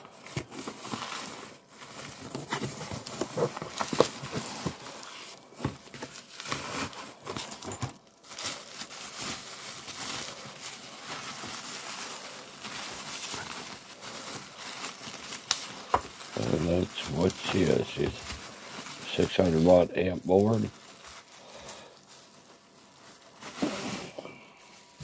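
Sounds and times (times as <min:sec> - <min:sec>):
bubble wrap crinkling: 0:00.0 - 0:25.0.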